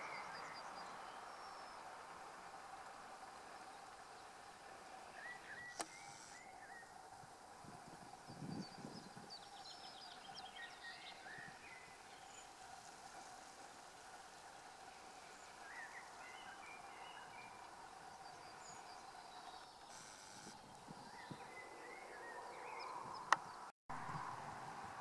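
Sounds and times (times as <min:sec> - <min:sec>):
distant birds chirping: 0:00.0 - 0:24.8.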